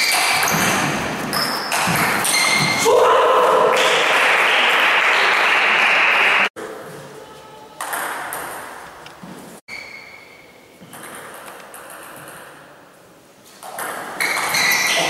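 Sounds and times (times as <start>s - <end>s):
sports hall hum: 0.0s - 15.0s.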